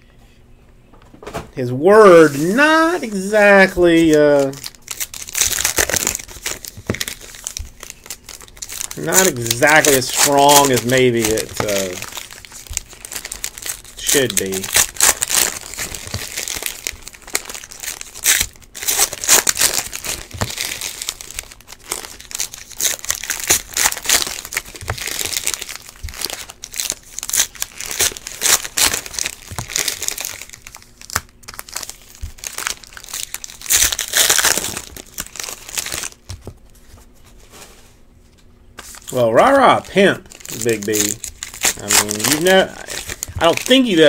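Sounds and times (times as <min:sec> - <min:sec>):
card pack wrappers crinkling: 0:01.9 - 0:37.8, 0:38.8 - 0:44.0.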